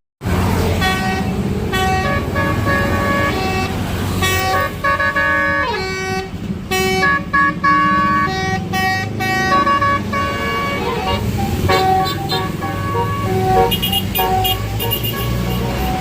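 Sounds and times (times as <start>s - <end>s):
low vehicle rumble: 0.2s - 16.0s
multi-tone bus air horn melody: 0.6s - 16.0s.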